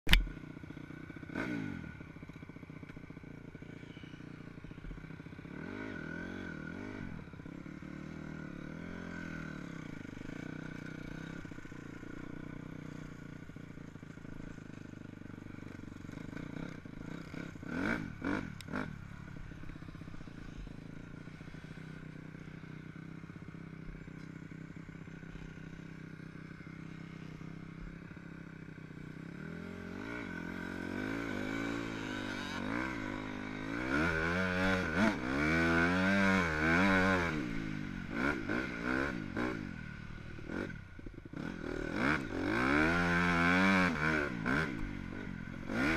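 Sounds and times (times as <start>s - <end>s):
dirt bike engine running: 0.1s - 45.9s.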